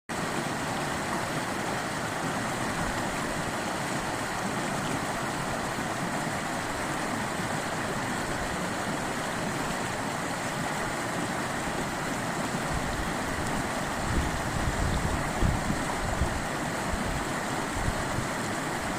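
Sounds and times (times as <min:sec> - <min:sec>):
river water rushing: 0:00.1 - 0:18.9.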